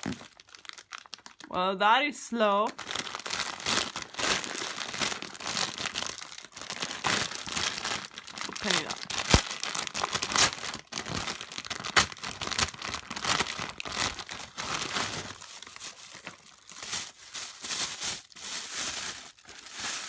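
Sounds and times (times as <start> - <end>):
packaging crinkling and tearing: 0.0 - 1.5, 2.7 - 20.0.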